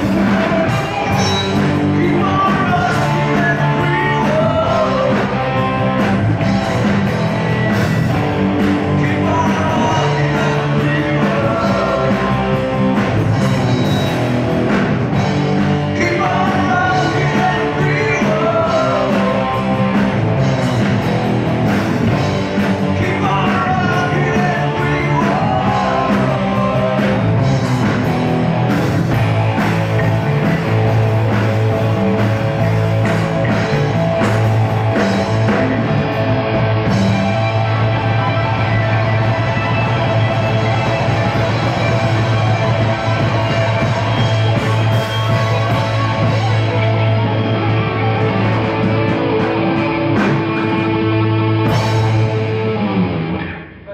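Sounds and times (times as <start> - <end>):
rock band playing: 0.0 - 53.9.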